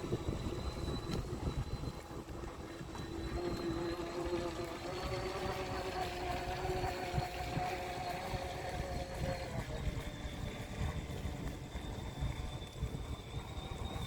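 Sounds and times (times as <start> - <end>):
model boat motors whining: 0.0 - 14.0.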